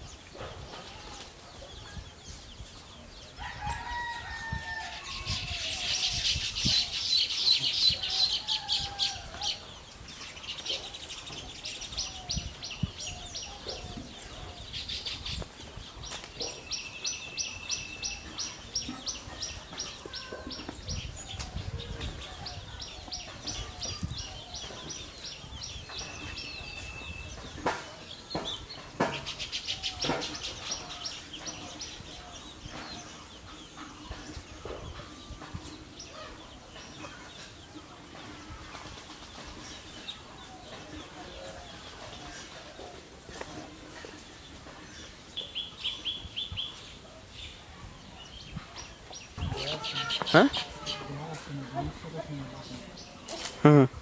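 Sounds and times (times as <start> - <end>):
birds chattering: 0.0 - 54.0.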